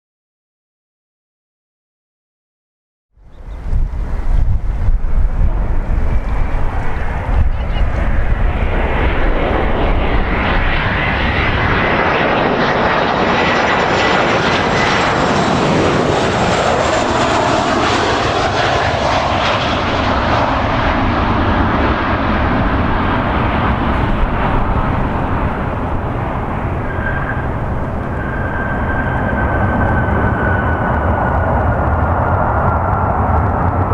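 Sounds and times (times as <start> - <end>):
jet engines passing close by: 3.2 - 33.9.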